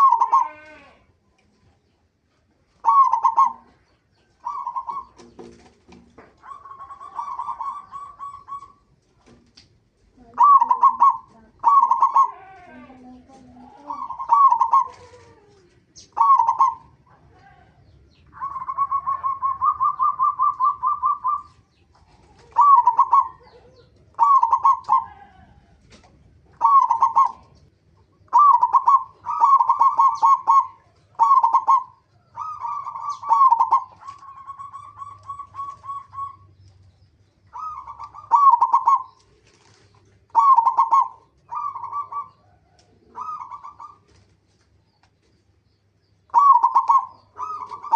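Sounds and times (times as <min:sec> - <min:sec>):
dove cooing: 0:00.0 - 0:01.1, 0:02.8 - 0:09.0, 0:10.2 - 0:17.4, 0:18.2 - 0:27.7, 0:28.3 - 0:36.7, 0:37.5 - 0:44.3, 0:46.3 - 0:47.9.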